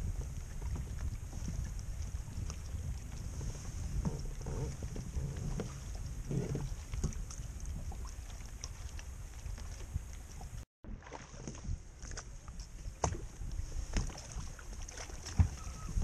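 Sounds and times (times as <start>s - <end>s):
wind buffeting microphone: 0.0s - 10.6s, 11.4s - 16.0s.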